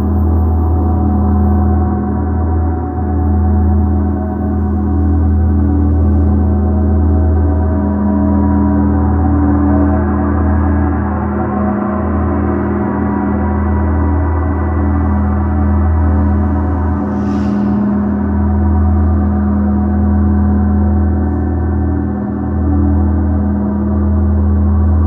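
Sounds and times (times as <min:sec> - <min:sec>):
gong ringing drone: 0:00.0 - 0:25.0.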